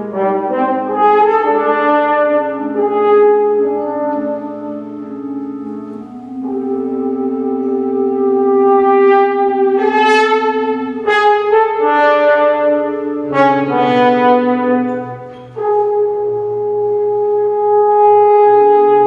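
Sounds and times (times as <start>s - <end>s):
french horn long held notes: 0.0s - 19.0s
organ accompaniment: 0.0s - 19.0s.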